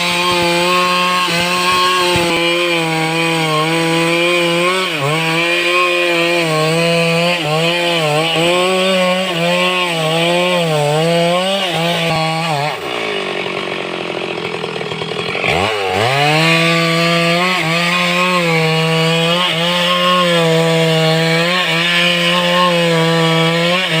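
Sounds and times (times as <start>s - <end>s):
chainsaw cutting wood: 0.0s - 24.0s.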